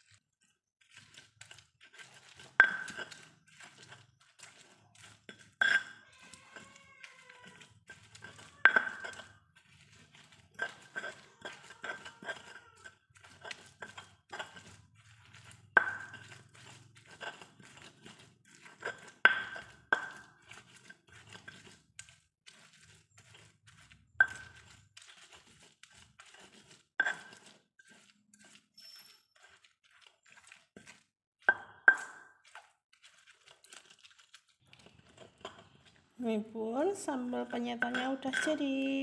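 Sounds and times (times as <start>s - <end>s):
pestle squashing and scraping: 0.0s - 39.0s.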